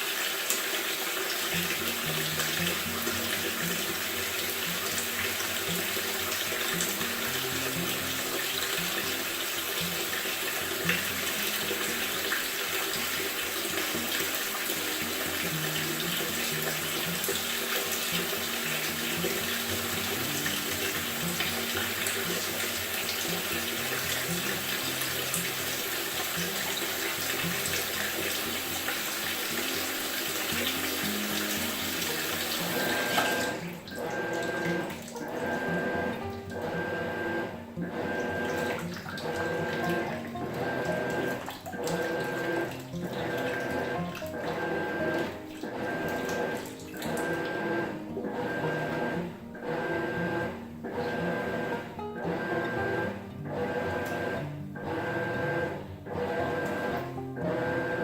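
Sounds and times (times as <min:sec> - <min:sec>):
water filling washer tub: 0:00.0 - 0:58.0
background music: 0:01.5 - 0:55.2.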